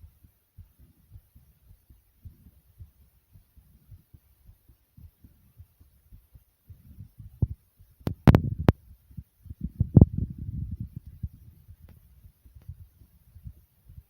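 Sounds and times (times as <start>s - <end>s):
heartbeat thumps: 0.0s - 14.0s.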